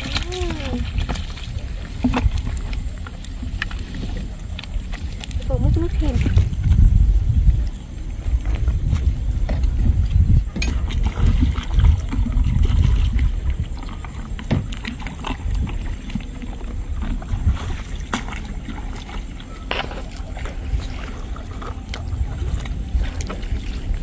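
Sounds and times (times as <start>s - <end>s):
water sloshing and splashing: 0.0s - 24.0s
wind rumble on microphone: 0.0s - 24.0s.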